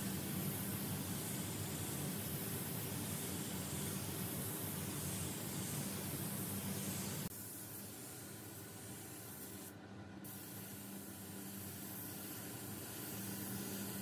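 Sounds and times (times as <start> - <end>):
spray gun air hiss: 0.0 - 14.0.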